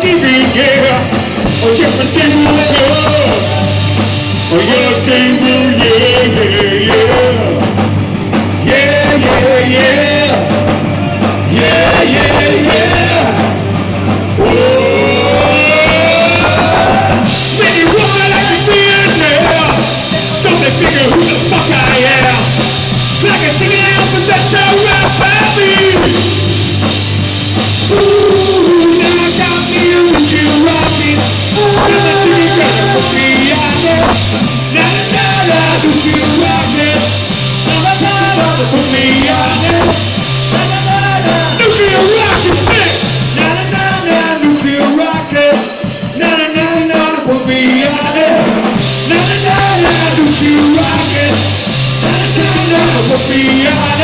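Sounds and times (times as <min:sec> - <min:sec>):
bass guitar: 0:00.0 - 0:54.0
drum kit: 0:00.0 - 0:54.0
electric guitars: 0:00.0 - 0:54.0
lead vocal singing: 0:00.0 - 0:54.0.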